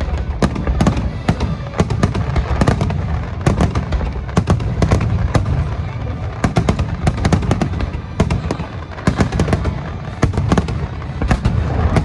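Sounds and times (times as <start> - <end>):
fireworks bursting: 0.0 - 12.0
low rumble of echoing explosions: 0.0 - 12.0.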